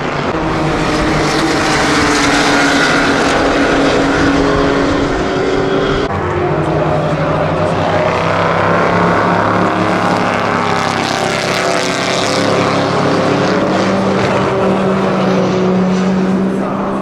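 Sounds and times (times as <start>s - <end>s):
race car engine driving by: 0.0s - 17.0s.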